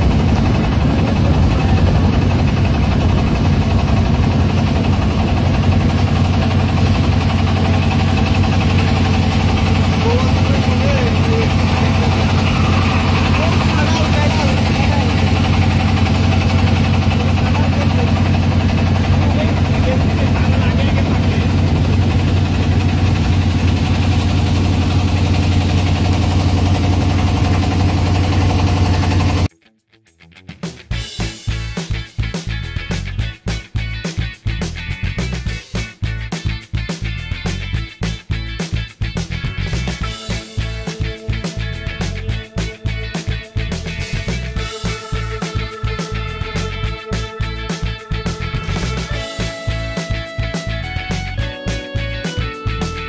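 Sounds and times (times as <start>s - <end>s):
motor boat engine running: 0.0s - 29.5s, 39.1s - 53.0s.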